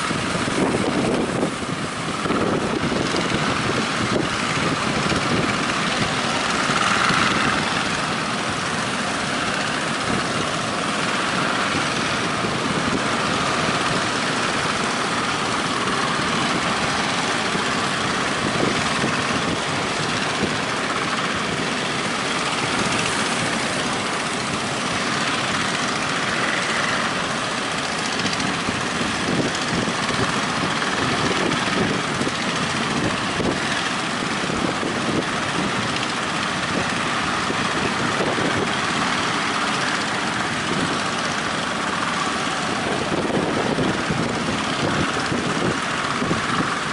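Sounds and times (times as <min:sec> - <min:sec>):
breaking waves roaring: 0:00.0 - 0:46.9
strong wind: 0:00.0 - 0:46.9.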